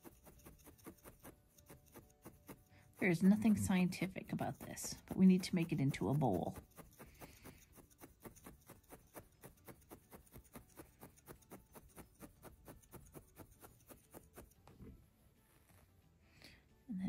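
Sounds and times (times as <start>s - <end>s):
felting needle tapping: 0.0s - 15.0s.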